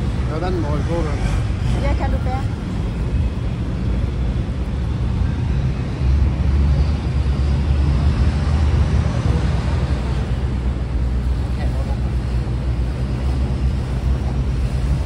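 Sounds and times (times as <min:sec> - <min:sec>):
boat engines rumbling: 0:00.0 - 0:15.0.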